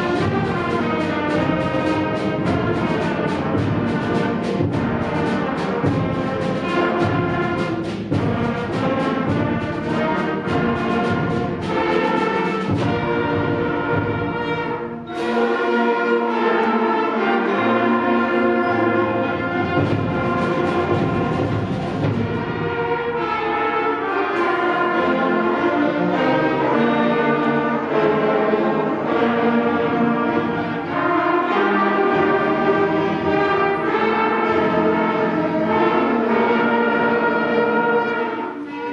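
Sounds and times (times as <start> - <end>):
concert band brass melodies: 0.0 - 38.9
percussion strikes: 0.0 - 38.9.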